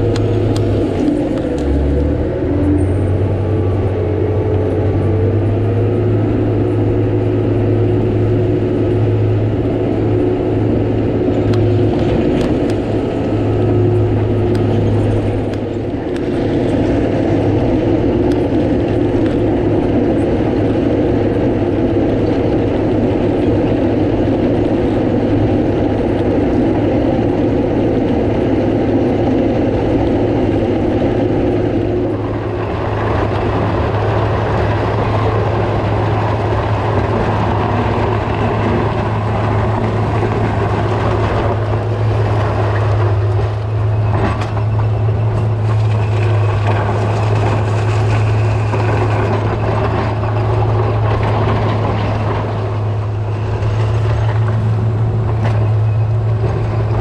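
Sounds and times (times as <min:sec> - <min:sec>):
diesel engine running: 0:00.0 - 0:57.0
grader blade cutting dirt: 0:00.0 - 0:57.0.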